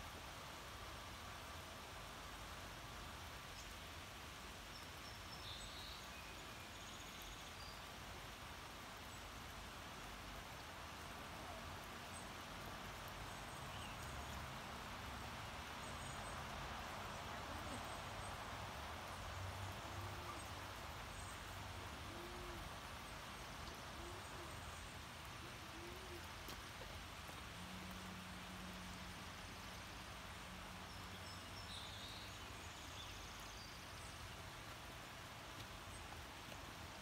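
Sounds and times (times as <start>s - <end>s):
light rain shower hissing: 0.0s - 37.0s.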